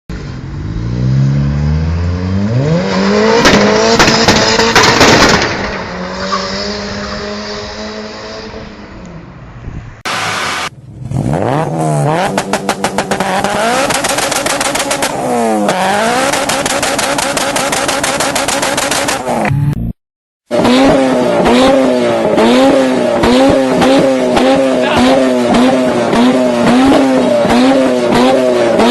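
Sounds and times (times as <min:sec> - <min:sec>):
car exhaust revving and crackling: 0:00.1 - 0:09.2, 0:10.1 - 0:19.8, 0:20.5 - 0:28.9.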